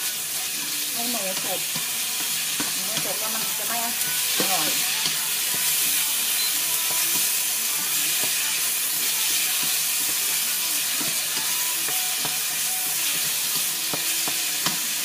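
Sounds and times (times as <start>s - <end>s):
meat sizzling in a hot pan: 0.0s - 15.0s.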